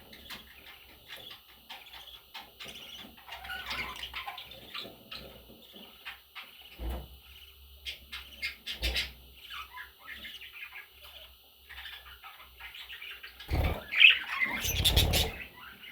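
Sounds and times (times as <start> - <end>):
budgerigars chirping: 0.0 - 15.9.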